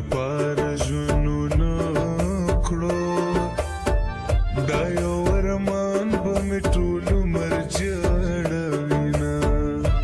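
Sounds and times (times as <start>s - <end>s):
slowed reverb song with held notes: 0.0s - 10.0s
steady drum beat: 0.0s - 10.0s.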